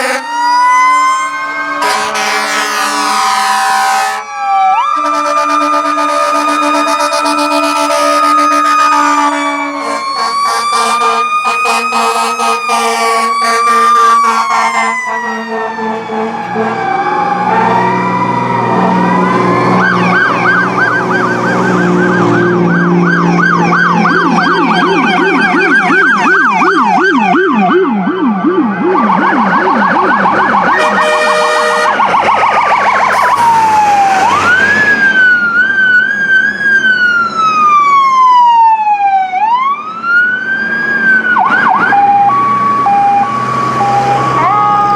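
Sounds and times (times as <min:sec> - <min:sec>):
fire engine sirens wailing: 0:00.0 - 0:44.9.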